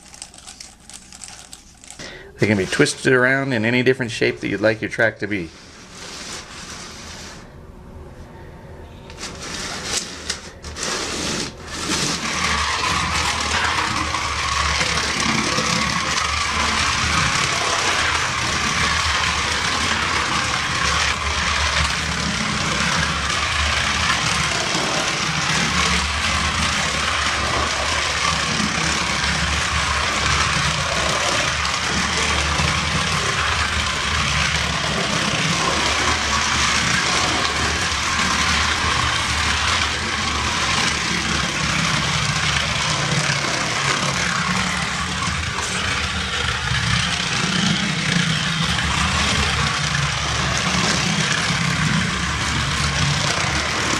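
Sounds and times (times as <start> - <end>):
wheels rumbling on plastic track: 0.0 - 7.5, 9.1 - 53.9
small motor whirring: 9.2 - 53.9.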